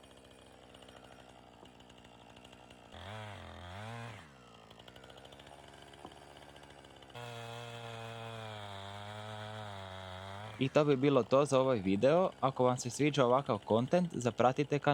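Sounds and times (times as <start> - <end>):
chainsaw engine revving: 0.0 - 14.9.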